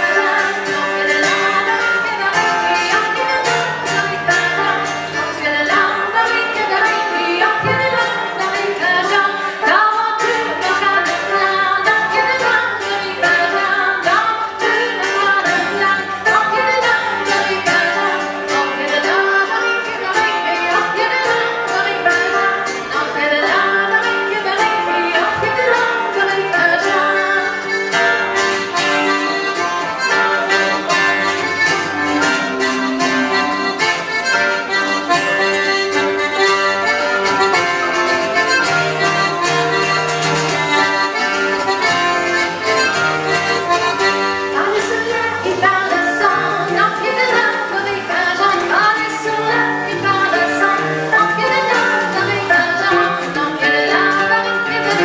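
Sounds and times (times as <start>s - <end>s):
accordion: 0.0s - 55.0s
folk band playing dance tune: 0.0s - 55.0s.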